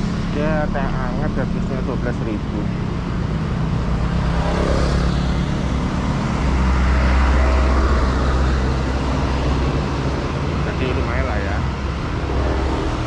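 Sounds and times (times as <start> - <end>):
road traffic: 0.0 - 13.0
vehicle low rumble: 0.0 - 13.0.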